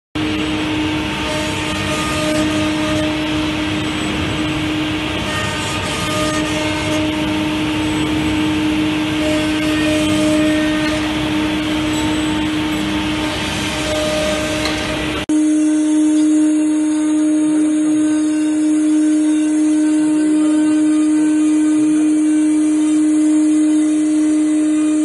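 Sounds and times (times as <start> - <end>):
wood router spindle whine: 0.2 - 25.0.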